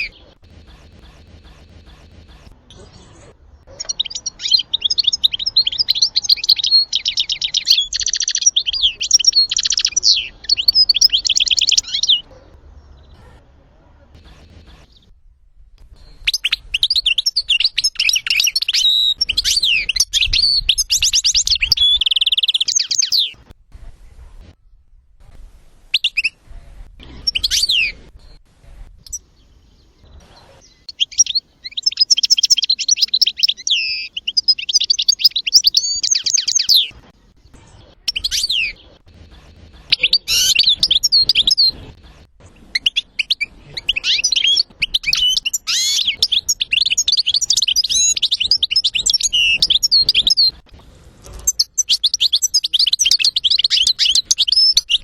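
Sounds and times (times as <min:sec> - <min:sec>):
bird twittering song: 0:00.0 - 0:13.4, 0:15.8 - 0:23.4, 0:25.9 - 0:50.6, 0:51.3 - 0:55.0.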